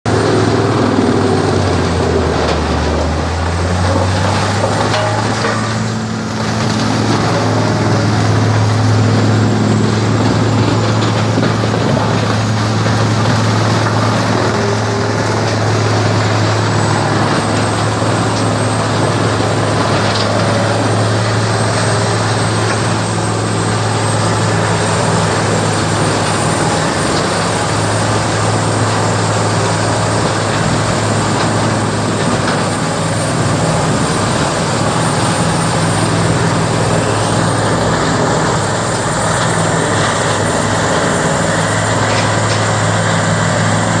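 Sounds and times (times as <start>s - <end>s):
vegetation grinder running: 0.1s - 44.0s.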